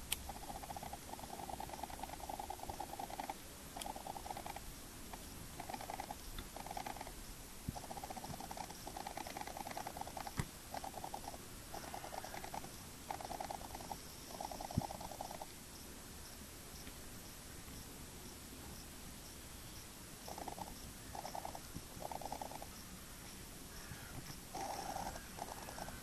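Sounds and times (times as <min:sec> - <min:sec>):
squirrel chewing seed: 0:00.0 - 0:15.5, 0:20.2 - 0:26.0.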